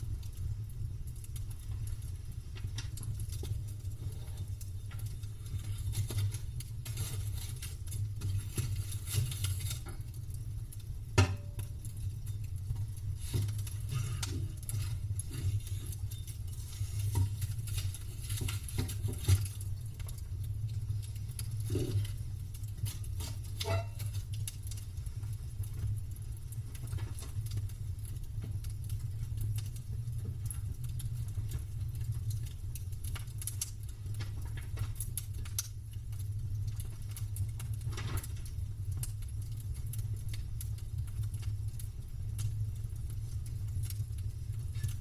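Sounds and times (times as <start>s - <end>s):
campfire crackling and popping: 0.0s - 45.0s
low steady rumble: 0.0s - 45.0s.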